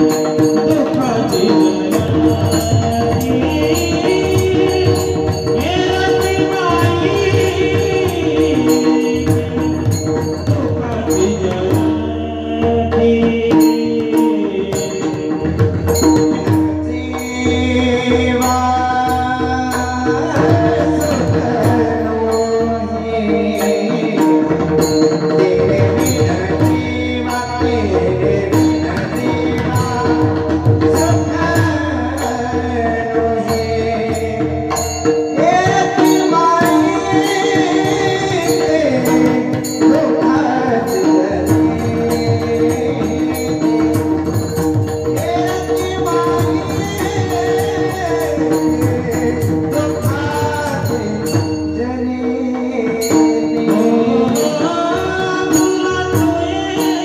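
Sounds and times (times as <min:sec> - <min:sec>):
men singing devotional melody: 0:00.0 - 0:57.0.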